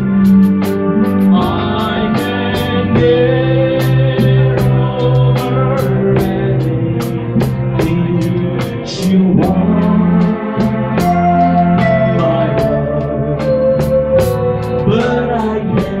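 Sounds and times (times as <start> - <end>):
drum kit beat: 0.0 - 16.0
electric bass: 0.0 - 16.0
electric guitars: 0.0 - 16.0.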